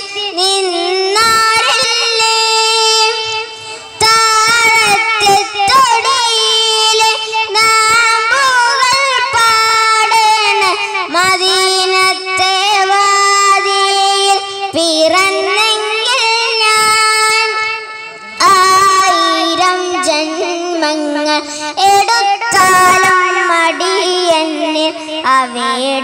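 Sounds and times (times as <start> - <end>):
boy singing into a microphone: 0.0 - 26.0.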